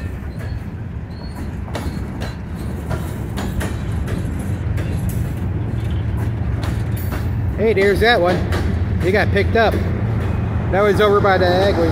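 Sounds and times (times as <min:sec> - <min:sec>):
freight train wheels rumbling: 0:00.0 - 0:11.9.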